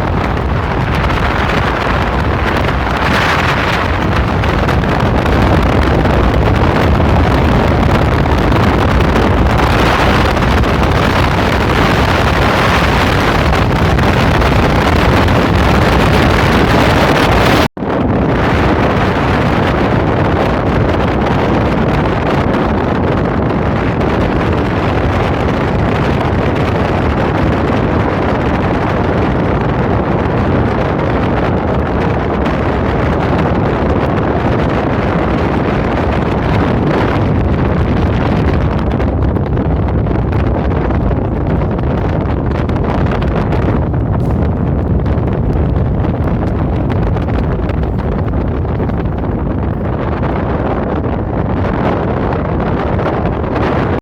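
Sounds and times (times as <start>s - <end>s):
wind and road noise: 0.0s - 54.0s
wind buffeting microphone: 0.0s - 54.0s.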